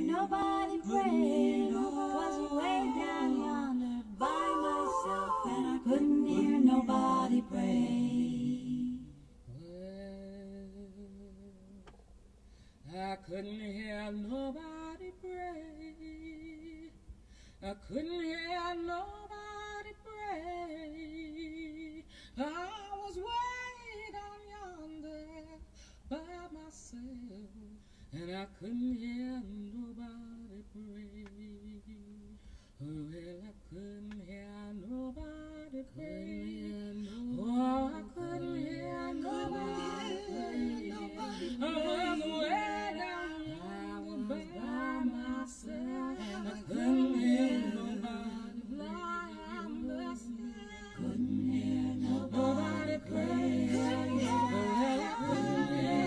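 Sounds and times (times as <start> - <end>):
a cappella group singing: 0.0 - 12.0, 12.8 - 56.0.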